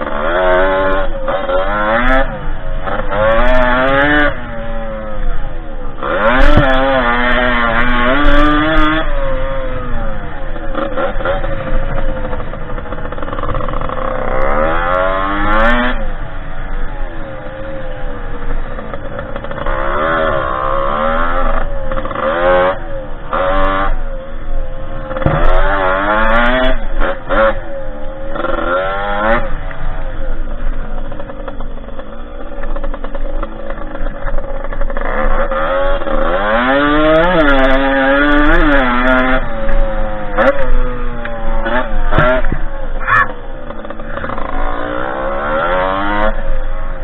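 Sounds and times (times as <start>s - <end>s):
two-stroke dirt bike engine revving: 0.0s - 47.0s.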